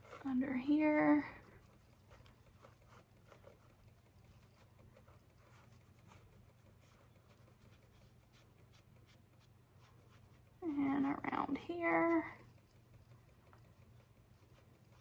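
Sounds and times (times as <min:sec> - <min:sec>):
brush strokes on skin: 0:00.0 - 0:15.0
low steady hum: 0:00.0 - 0:15.0.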